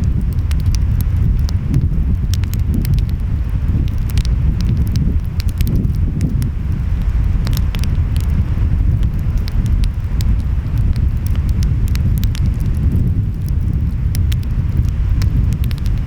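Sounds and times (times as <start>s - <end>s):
wind: 0.0s - 16.0s
wood fire crackling: 0.0s - 16.0s.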